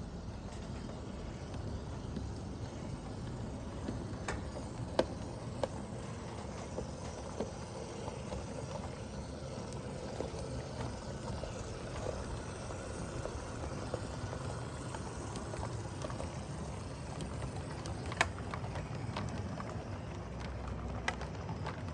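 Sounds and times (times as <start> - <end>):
model train rumbling on track: 0.0 - 21.9.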